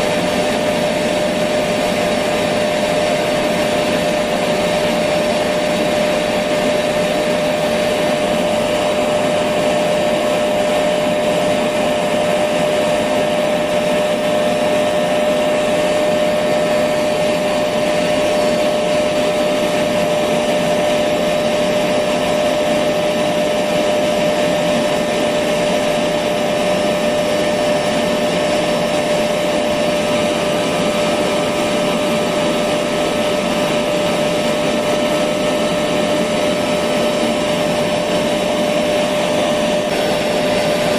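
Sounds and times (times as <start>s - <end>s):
vacuum cleaner motor running: 0.0s - 40.9s.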